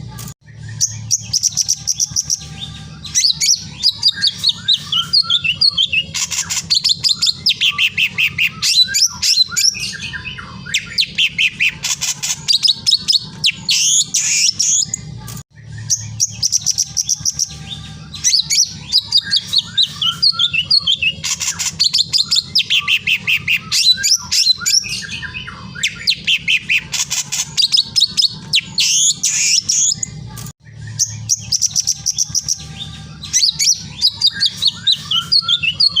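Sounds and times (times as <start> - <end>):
small birds chirping: 0.1 - 36.0.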